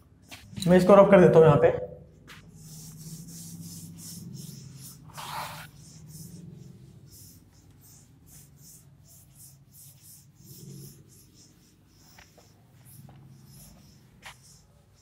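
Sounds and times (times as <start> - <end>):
duster rubbing on chalkboard: 2.1 - 15.0.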